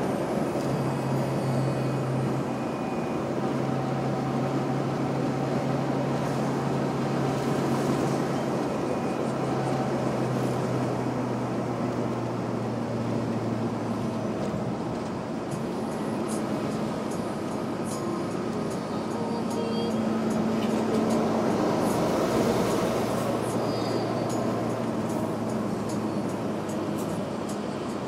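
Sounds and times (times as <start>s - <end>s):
road and tyre noise: 0.0s - 28.0s
van engine drone: 0.0s - 28.0s.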